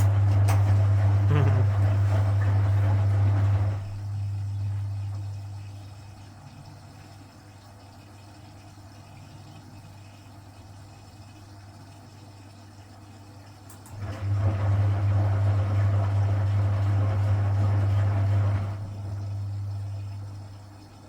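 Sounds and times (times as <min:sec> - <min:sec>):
washing machine hum: 0:00.0 - 0:21.0
water rushing through machine: 0:00.0 - 0:21.0.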